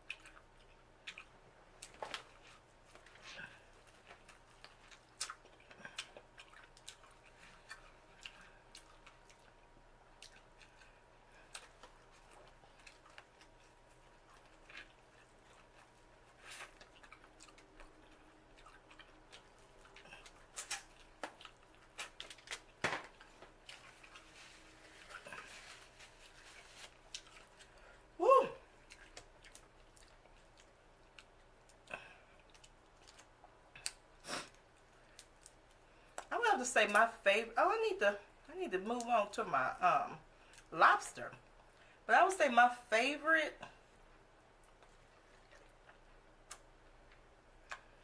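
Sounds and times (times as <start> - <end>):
person chewing wetly: 0.0 - 36.3, 43.7 - 48.0.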